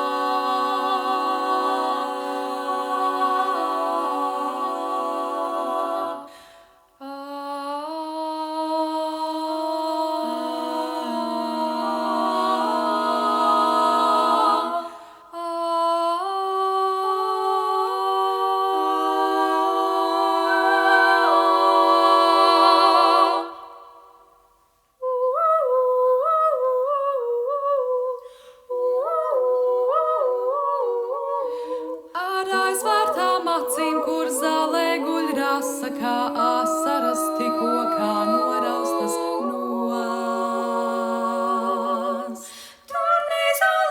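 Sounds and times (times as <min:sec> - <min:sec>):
women humming close harmony: 0:00.0 - 0:06.4, 0:07.0 - 0:24.1, 0:25.0 - 0:43.9
women singing: 0:00.0 - 0:43.9.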